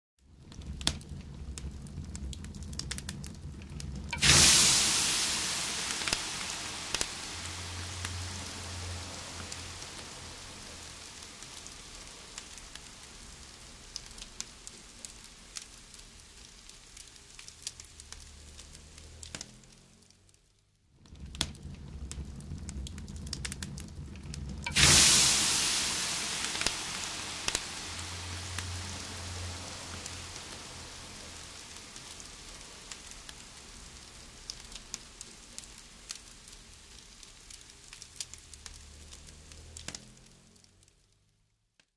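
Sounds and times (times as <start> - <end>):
campfire hissing and sizzling: 0.2 - 20.4, 21.0 - 41.0
fire popping: 0.2 - 41.2.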